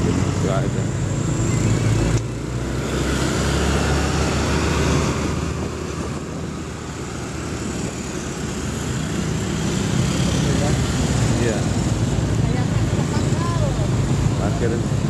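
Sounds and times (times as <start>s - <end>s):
low engine hum: 0.0s - 15.0s
passing vehicle engines: 0.0s - 15.0s
road and wind noise: 0.0s - 15.0s.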